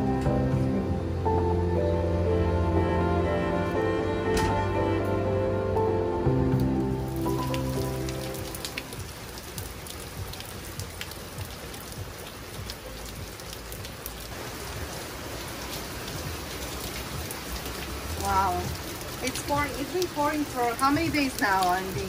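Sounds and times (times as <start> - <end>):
background music: 0.0 - 22.0
heavy rain on water and boat: 0.0 - 22.0.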